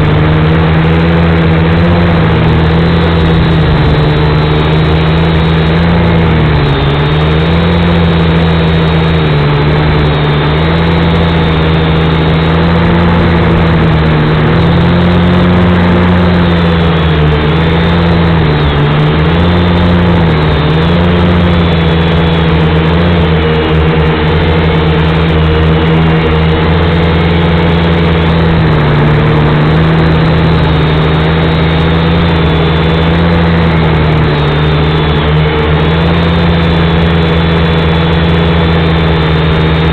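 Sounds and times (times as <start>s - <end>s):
quadcopter propellers whirring: 0.0s - 39.9s.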